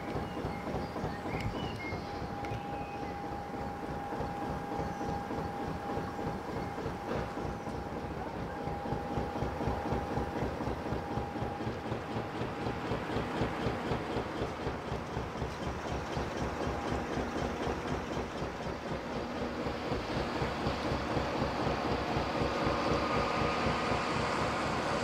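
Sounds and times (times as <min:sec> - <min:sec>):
diesel engine chugging: 0:00.0 - 0:25.0.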